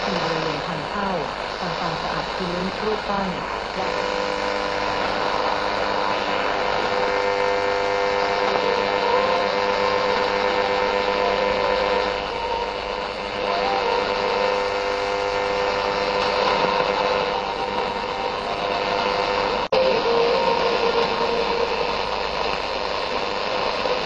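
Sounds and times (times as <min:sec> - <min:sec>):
radio interference whistles: 0:00.0 - 0:24.0
radio static hiss: 0:00.0 - 0:24.0.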